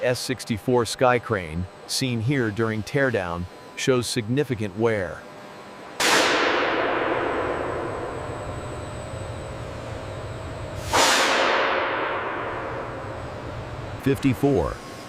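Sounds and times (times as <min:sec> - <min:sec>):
low steady hum: 0:00.0 - 0:11.0, 0:11.6 - 0:15.0.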